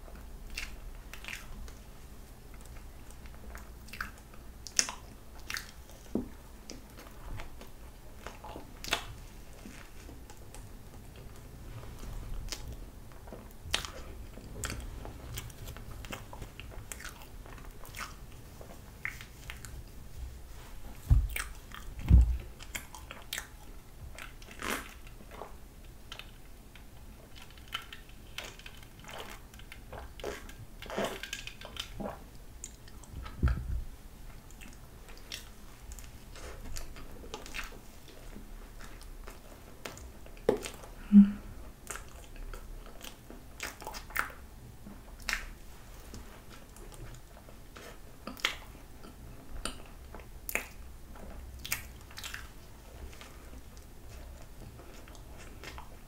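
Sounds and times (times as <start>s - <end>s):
chewing with wet mouth clicks: 0.5s - 1.8s, 2.5s - 11.5s, 12.4s - 20.0s, 21.3s - 33.6s, 34.3s - 40.9s, 41.8s - 44.5s, 45.1s - 56.0s.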